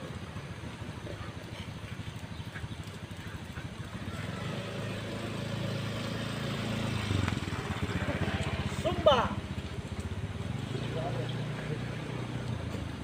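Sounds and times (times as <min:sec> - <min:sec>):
small engine running: 0:00.1 - 0:13.0.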